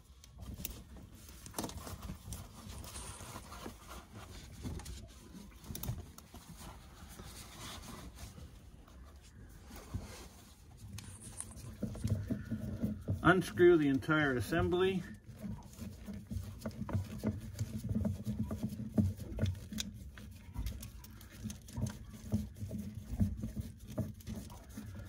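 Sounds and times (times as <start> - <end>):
gloved hands rustling and clicking: 0.0 - 25.0.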